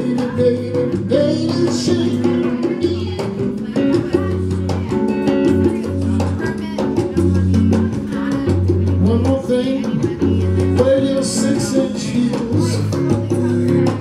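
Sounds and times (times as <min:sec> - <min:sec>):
drums: 0:00.0 - 0:14.0
electric bass: 0:00.0 - 0:14.0
electric guitar: 0:00.0 - 0:14.0.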